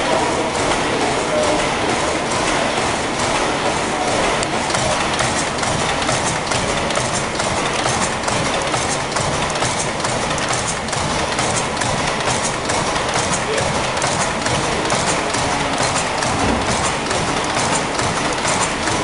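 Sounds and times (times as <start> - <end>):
steam engine clattering: 0.0 - 19.0.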